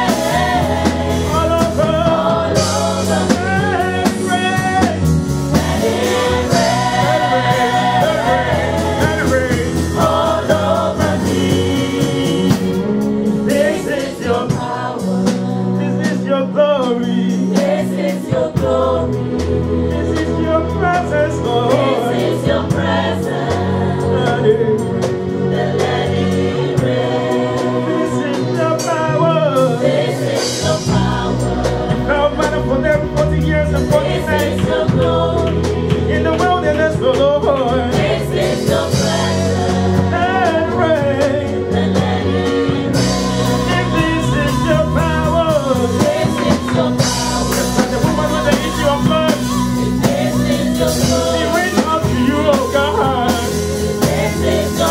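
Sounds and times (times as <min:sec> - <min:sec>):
backing singers: 0:00.0 - 0:54.9
band with drums: 0:00.0 - 0:54.9
deep bass: 0:00.0 - 0:54.9
lead singer: 0:00.0 - 0:54.9.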